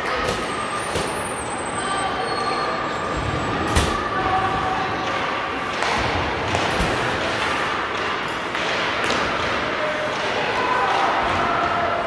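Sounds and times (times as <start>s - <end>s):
spectators' voices and shouts: 0.0s - 12.0s.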